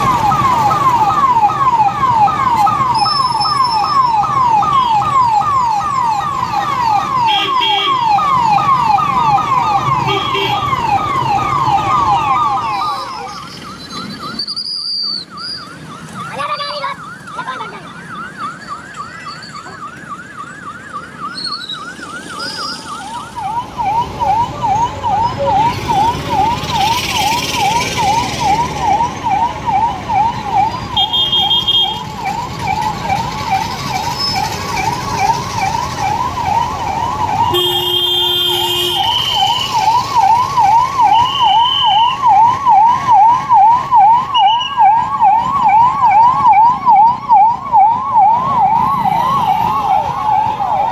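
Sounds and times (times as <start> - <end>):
lower-pitched siren: 0.0 - 50.9
police siren yelping: 0.0 - 50.9.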